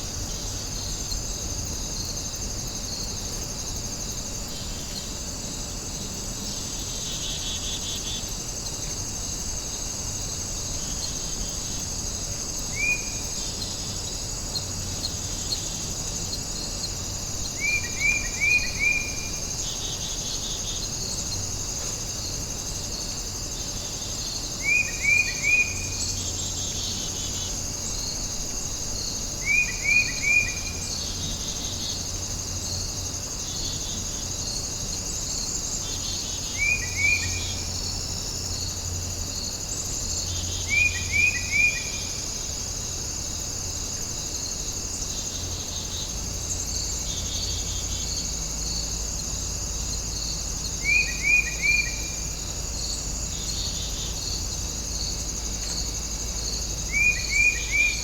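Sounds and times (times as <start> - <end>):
high insect chorus: 0.0 - 58.0.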